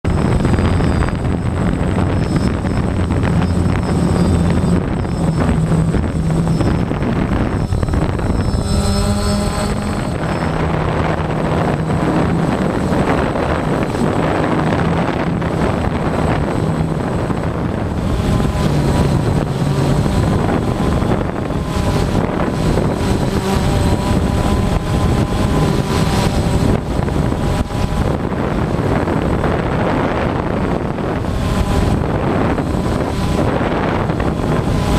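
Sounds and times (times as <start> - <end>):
drone rotors whirring: 0.0 - 34.9.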